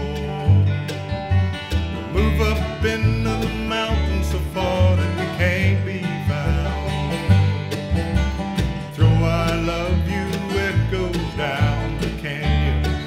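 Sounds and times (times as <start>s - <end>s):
bass line: 0.0s - 13.0s
mandolin: 0.0s - 13.0s
picked acoustic guitar: 0.0s - 13.0s.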